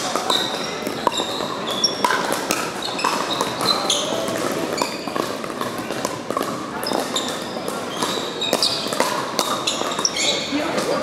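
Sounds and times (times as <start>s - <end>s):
paddles popping against ball: 0.0s - 10.1s
murmur of voices: 0.0s - 11.0s
sneakers squeaking on hardwood: 0.0s - 11.0s.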